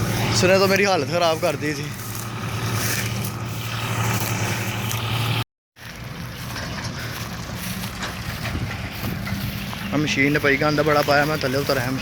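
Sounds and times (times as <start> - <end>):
combine harvester engine humming: 0.0 - 12.0.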